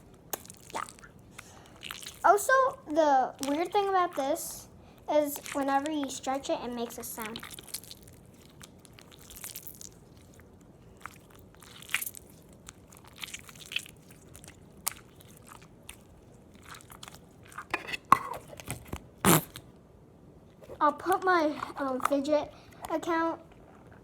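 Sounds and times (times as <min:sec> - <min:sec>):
slime crackling and popping: 0:00.0 - 0:19.7.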